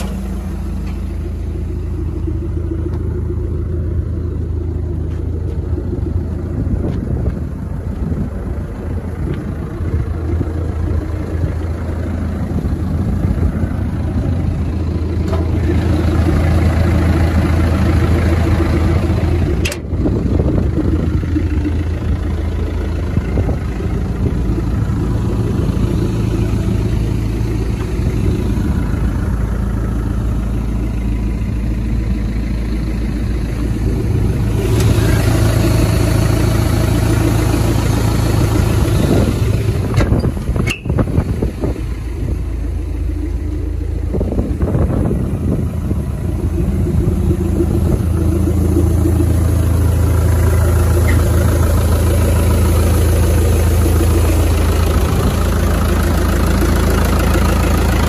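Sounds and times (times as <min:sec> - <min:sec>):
diesel excavator engine running: 0:00.0 - 0:58.0.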